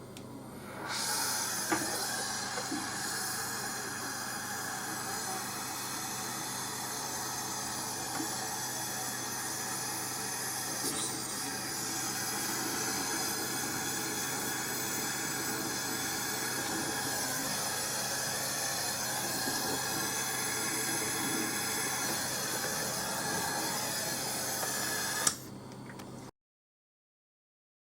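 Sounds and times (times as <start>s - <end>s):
low mechanical hum: 0.0s - 26.3s.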